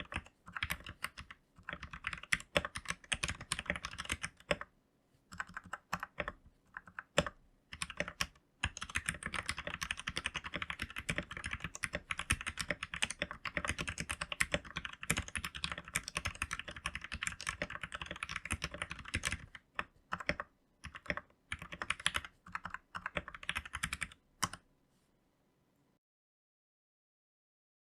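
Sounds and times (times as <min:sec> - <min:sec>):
mechanical keyboard typing: 0:00.0 - 0:04.7, 0:05.3 - 0:24.6.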